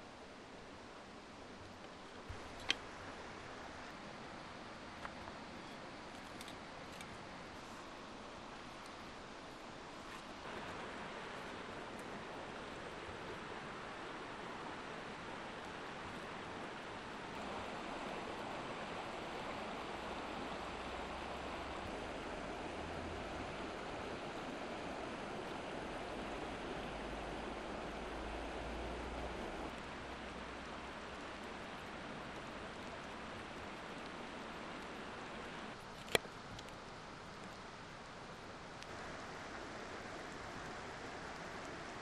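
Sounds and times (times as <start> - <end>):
river rushing over rocks: 0.0 - 42.0.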